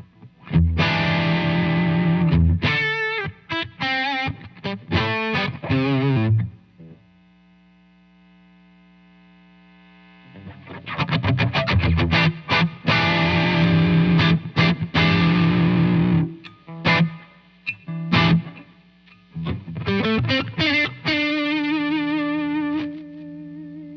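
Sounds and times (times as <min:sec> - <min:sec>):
overdriven electric guitar: 0:00.0 - 0:07.4, 0:09.6 - 0:23.9.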